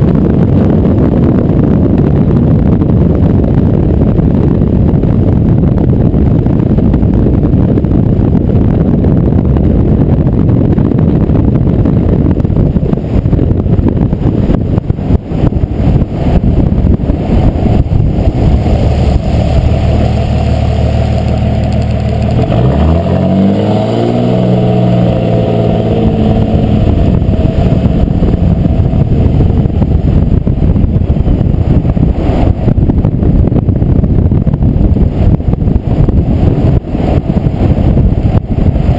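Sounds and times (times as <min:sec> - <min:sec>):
diesel pickup engine accelerating: 0:00.0 - 0:38.9
heavy rushing noise: 0:00.0 - 0:38.9.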